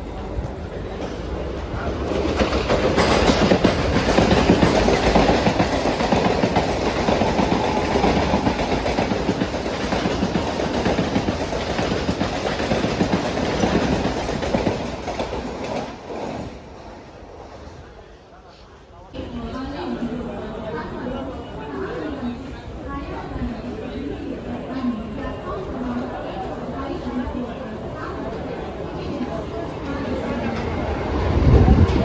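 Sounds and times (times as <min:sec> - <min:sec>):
electric train passing at speed: 0:00.0 - 0:18.4, 0:19.1 - 0:32.0.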